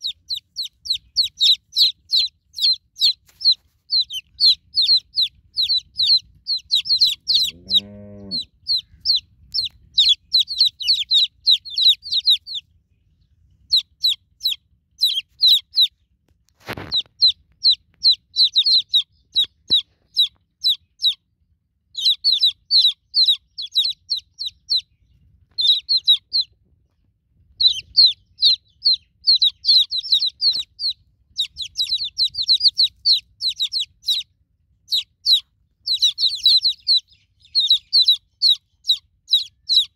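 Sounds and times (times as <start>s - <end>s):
chicks peeping: 0.0s - 21.3s, 22.0s - 39.9s.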